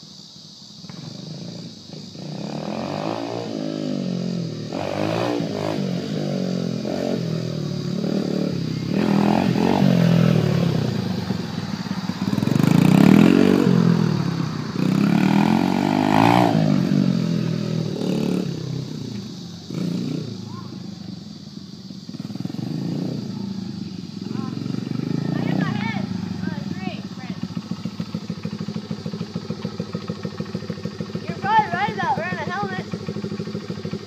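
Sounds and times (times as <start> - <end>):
dirt bike engine revving: 0.8 - 34.0.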